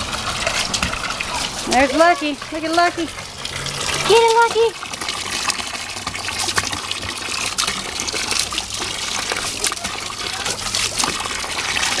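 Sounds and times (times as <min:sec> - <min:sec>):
hose water spraying and splashing: 0:00.0 - 0:12.0.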